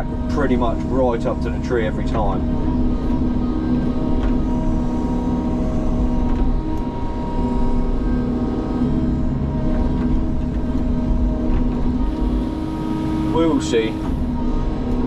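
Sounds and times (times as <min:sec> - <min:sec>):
steady whine: 0:00.0 - 0:15.0
tracked machine engine running: 0:00.0 - 0:15.0.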